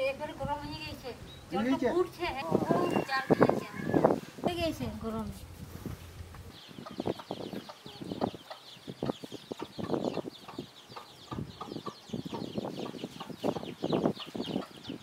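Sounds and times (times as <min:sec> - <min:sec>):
small birds chirping: 0:00.0 - 0:15.0
chickens clucking: 0:00.9 - 0:15.0.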